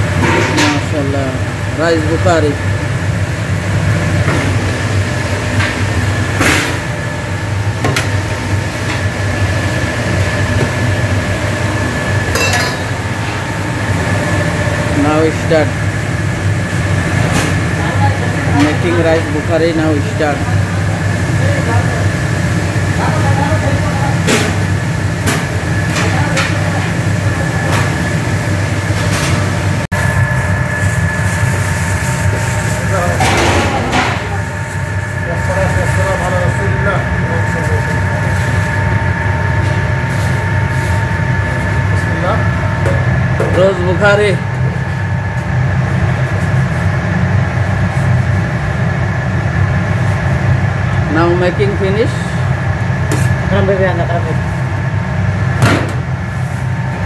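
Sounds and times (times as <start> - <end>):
kitchen machinery drone: 0.0 - 57.0
thin steady whine: 4.8 - 57.0.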